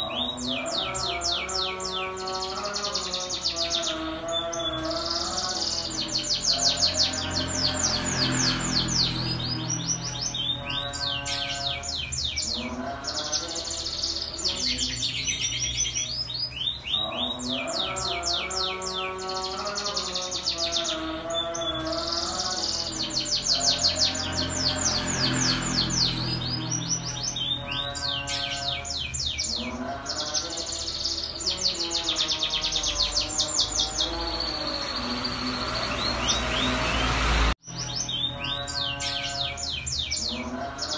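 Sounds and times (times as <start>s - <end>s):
canary singing whistled trills: 0.0s - 40.9s.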